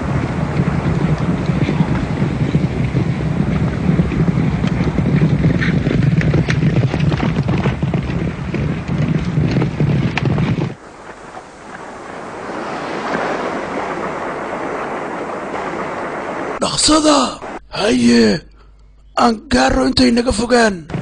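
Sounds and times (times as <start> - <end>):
wind and surf rushing: 0.0 - 18.4.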